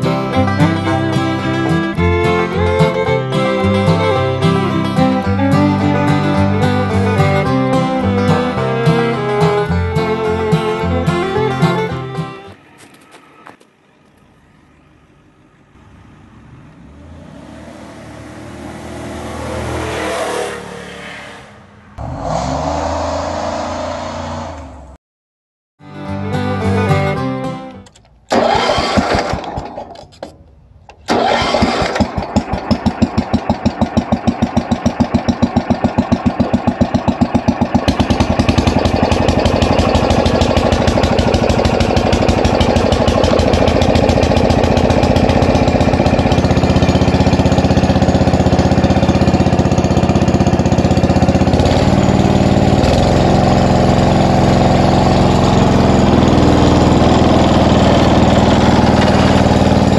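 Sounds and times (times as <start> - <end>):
lawn tractor engine starting: 0.0 - 14.8, 26.1 - 59.9.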